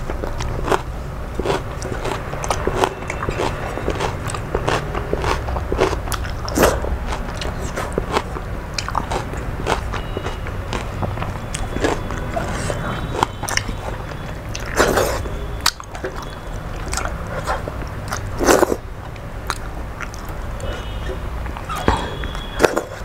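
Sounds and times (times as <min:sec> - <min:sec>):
chewing and wet mouth sounds: 0:00.0 - 0:23.0
fingers mixing food on metal plate: 0:00.0 - 0:23.0
steady low hum: 0:00.0 - 0:23.0.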